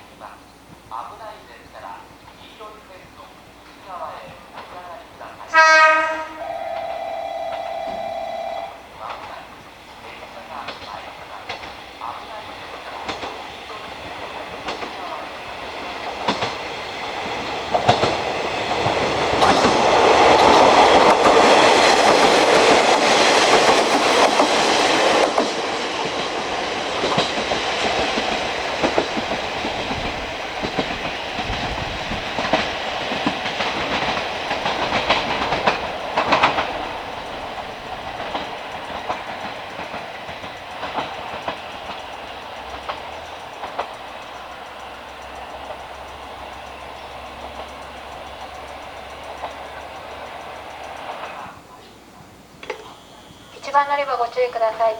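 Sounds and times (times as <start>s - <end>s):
train wheels clacking on rails: 0.0s - 54.9s.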